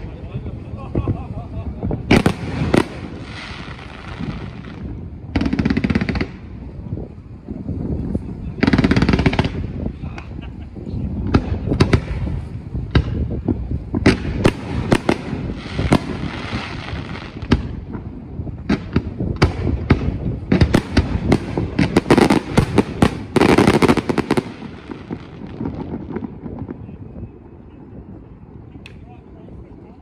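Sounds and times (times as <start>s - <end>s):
fireworks bangs with crackle: 0.0s - 28.9s.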